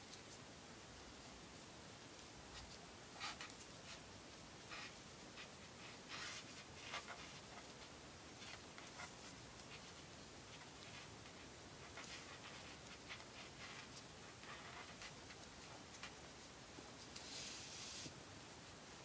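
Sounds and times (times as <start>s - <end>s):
steady hiss: 0.0s - 19.0s
cords rustling and rubbing: 2.2s - 18.2s.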